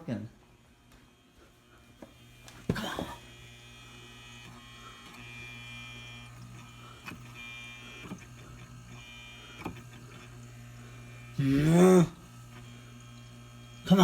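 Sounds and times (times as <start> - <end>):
fan motor humming: 0.0 - 14.0
high motor whine: 0.3 - 14.0.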